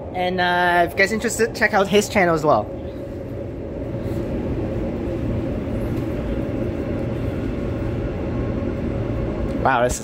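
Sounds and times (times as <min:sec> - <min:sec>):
even hum: 0:00.0 - 0:10.0
train wheels rumbling: 0:00.0 - 0:10.0.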